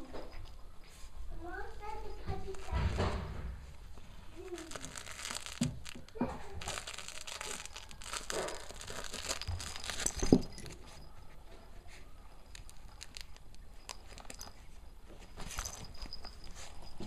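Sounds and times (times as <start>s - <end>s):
crinkle toys rustling: 0.0s - 17.0s.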